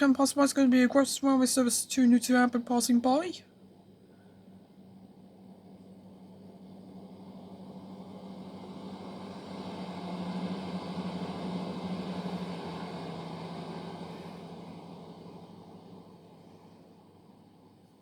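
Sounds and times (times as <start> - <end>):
passenger train passing: 0.0 - 18.0.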